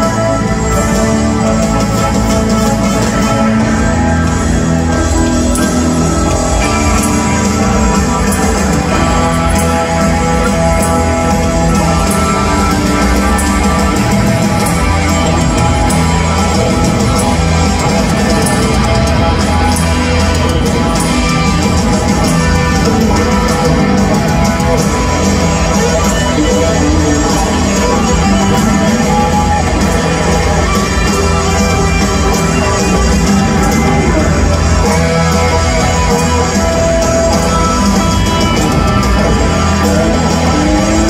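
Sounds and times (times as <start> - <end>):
rock band with orchestra playing: 0.0 - 41.0.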